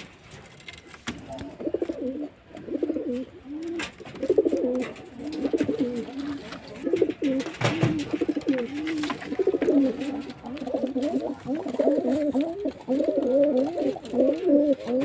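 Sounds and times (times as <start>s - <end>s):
pigeons cooing: 1.2s - 15.0s.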